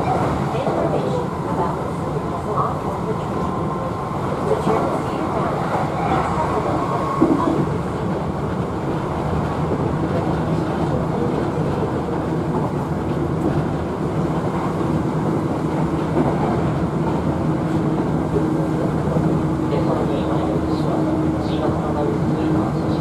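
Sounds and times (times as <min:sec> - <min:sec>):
train wheels rumbling: 0:00.0 - 0:23.0.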